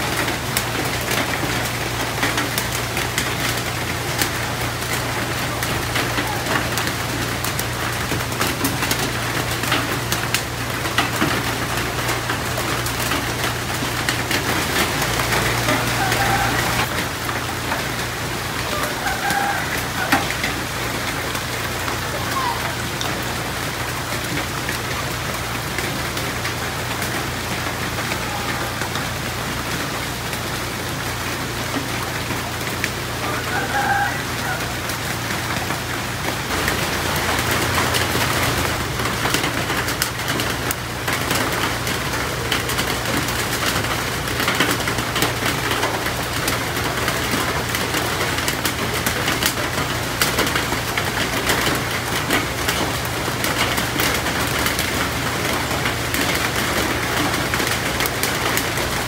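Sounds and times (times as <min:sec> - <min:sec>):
drops ticking on foliage: 0:00.0 - 0:59.0
steady rain on water and leaves: 0:00.0 - 0:59.0.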